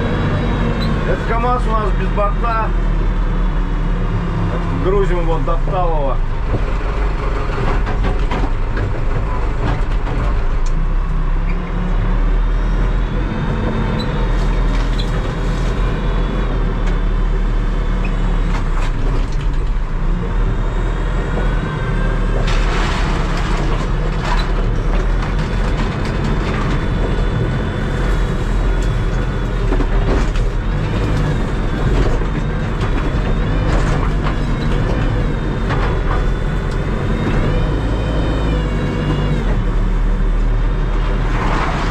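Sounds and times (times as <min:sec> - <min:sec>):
backhoe diesel engine under load: 0:00.0 - 0:41.9
engine whine: 0:00.0 - 0:41.9.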